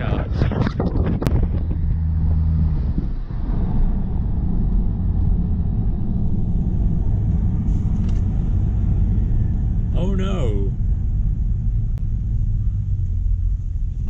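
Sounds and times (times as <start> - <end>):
tyres and engine rumble: 0.0 - 14.0
steady hum: 0.1 - 14.0.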